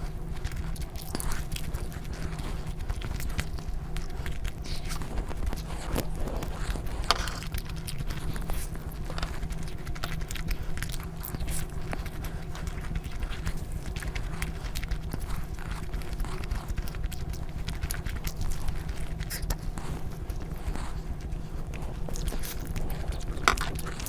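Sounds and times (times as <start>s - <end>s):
low hum: 0.0s - 24.0s
person chewing food: 0.0s - 24.0s.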